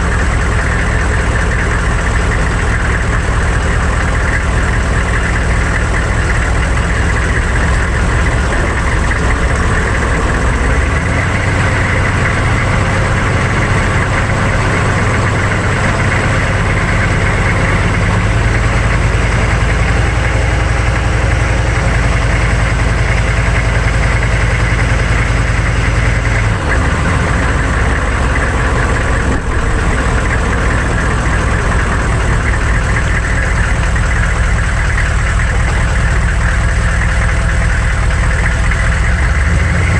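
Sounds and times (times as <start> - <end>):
diesel truck engine running: 0.0 - 39.9
tyre and road noise: 0.0 - 39.9.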